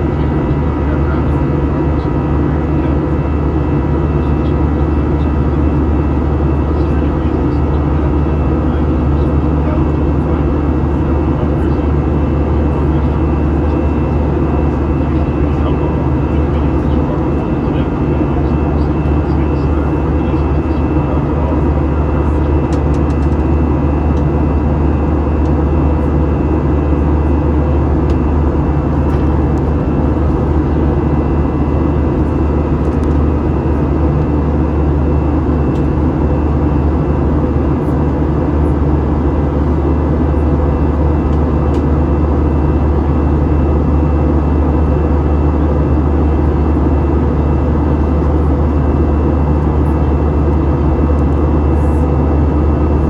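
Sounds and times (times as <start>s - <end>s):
jet engine cabin drone: 0.0s - 53.0s.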